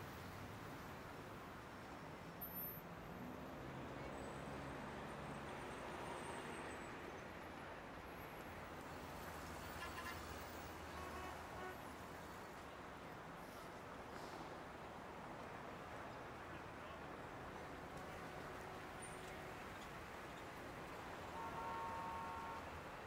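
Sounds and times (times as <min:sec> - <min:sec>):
faint street noise: 0:00.0 - 0:23.0.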